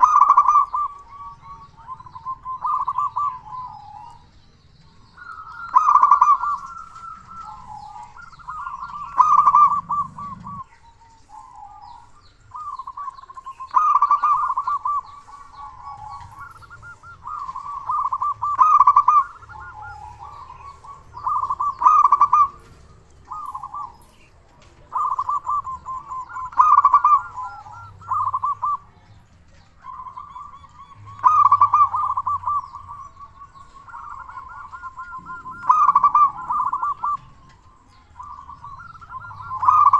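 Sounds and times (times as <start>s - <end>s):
dove cooing trilled phrases: 0.0s - 39.9s.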